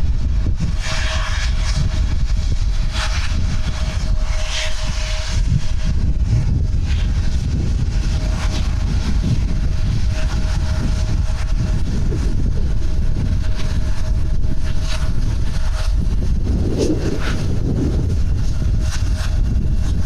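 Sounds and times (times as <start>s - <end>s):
jet engines rumbling and whining: 0.0s - 20.0s
wind on the microphone: 0.0s - 20.0s.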